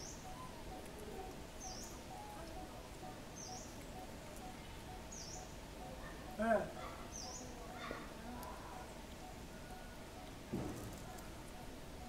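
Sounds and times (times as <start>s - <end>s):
faint bird chirping: 0.0s - 12.0s
outdoor background hiss: 0.0s - 12.0s.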